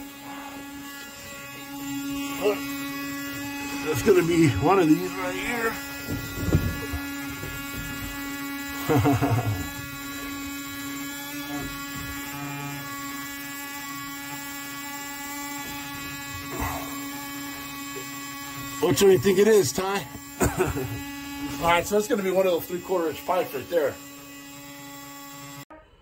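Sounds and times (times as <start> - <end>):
steady electric buzz: 0.0 - 25.7.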